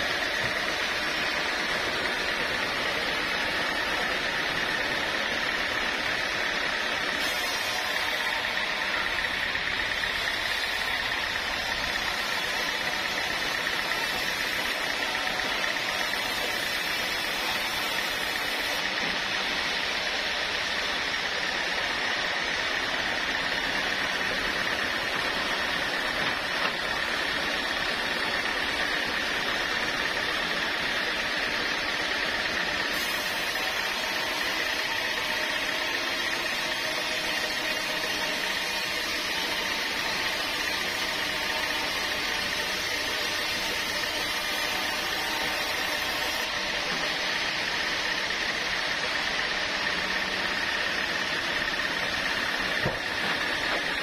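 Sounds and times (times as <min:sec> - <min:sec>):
high machine whine: 0:00.0 - 0:54.0
sawmill machinery running: 0:00.0 - 0:54.0.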